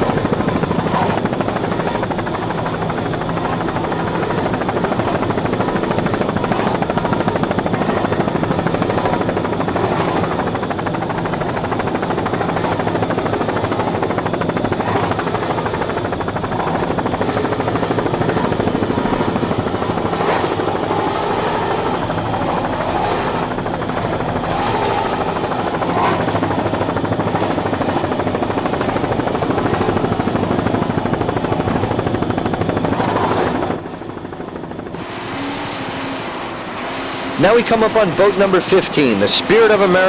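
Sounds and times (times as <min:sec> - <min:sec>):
helicopter engine and rotor drone: 0:00.0 - 0:40.0.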